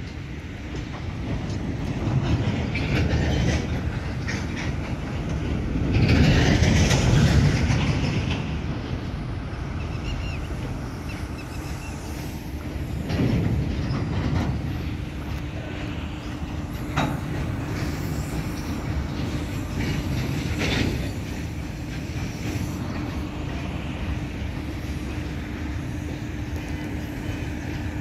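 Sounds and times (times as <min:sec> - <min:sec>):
freight wagons rumbling on rails: 0:00.0 - 0:28.0.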